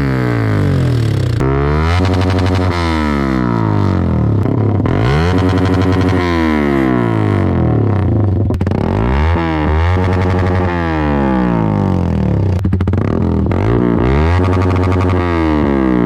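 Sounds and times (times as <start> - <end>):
held bass notes: 0.0 - 16.0.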